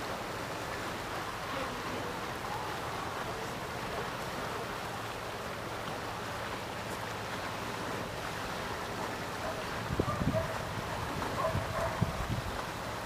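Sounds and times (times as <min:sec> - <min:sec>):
rush of water: 0:00.0 - 0:13.0.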